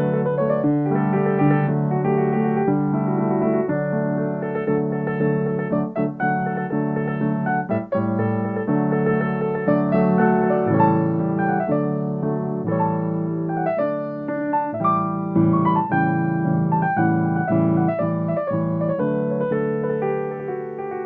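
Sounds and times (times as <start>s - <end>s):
solo piano playing: 0.0s - 21.0s.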